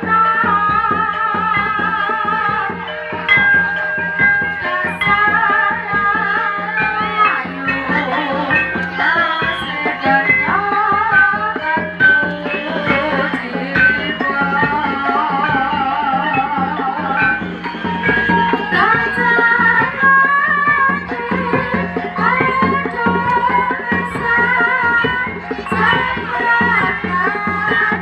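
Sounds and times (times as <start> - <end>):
drums and percussion rhythm: 0.0 - 28.0
wavering lead melody: 0.0 - 28.0.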